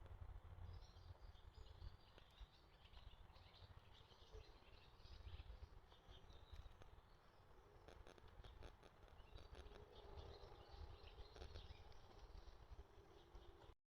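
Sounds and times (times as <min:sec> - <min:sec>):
small birds chirping: 0:00.6 - 0:13.7.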